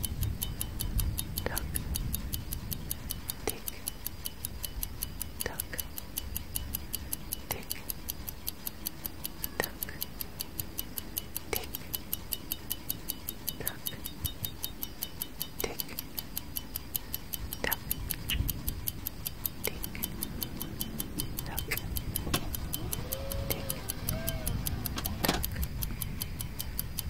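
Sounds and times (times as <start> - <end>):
clock ticking: 0.0 - 27.0.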